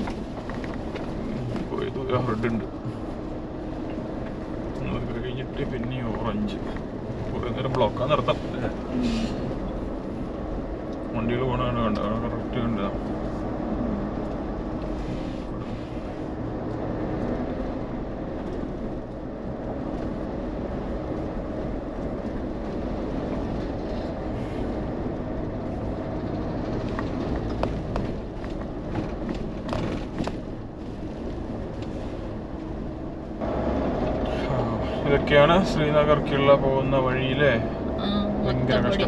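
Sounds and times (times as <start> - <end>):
car engine running: 0.0 - 39.0
road noise: 0.0 - 39.0.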